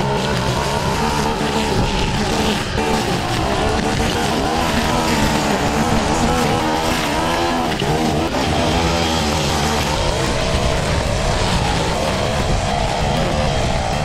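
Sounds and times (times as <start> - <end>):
brush cutter engine running: 0.0 - 14.0.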